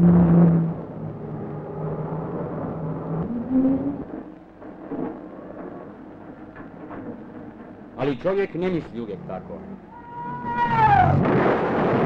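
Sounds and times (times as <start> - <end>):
construction machinery engine rumbling: 0.0 - 11.2.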